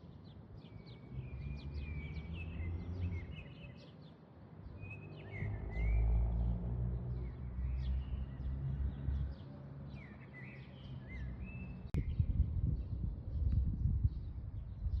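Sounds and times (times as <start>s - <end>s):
small birds chirping: 0.0s - 6.2s, 7.1s - 15.0s.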